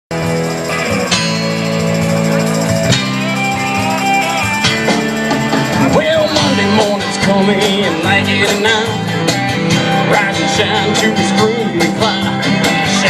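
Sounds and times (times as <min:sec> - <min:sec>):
drums: 0:00.1 - 0:13.0
guitars strumming chords: 0:00.1 - 0:13.0.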